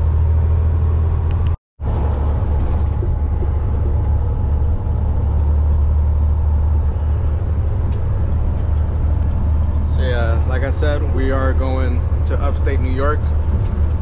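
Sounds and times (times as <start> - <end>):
diesel truck engine drone: 0.0 - 14.0
road noise: 0.0 - 14.0.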